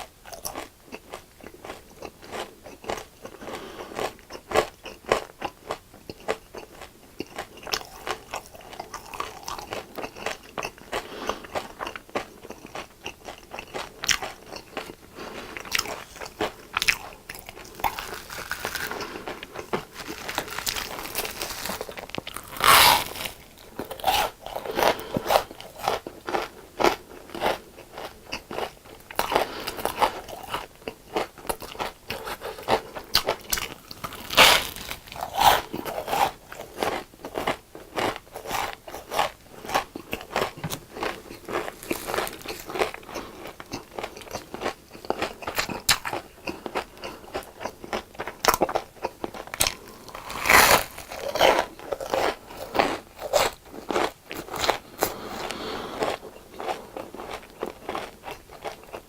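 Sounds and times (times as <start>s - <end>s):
crunchy chewing of fried food: 0.0s - 59.0s.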